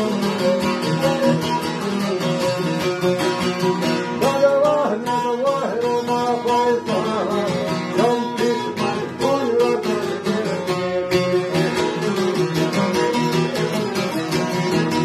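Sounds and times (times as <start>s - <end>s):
man singing: 0.0s - 15.0s
mandolin strumming: 0.0s - 15.0s
plucked lutes: 0.0s - 15.0s.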